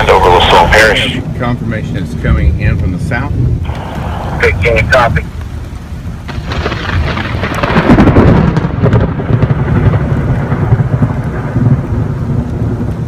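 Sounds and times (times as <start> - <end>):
rain falling: 0.0 - 13.0
rolling thunder: 0.0 - 13.0.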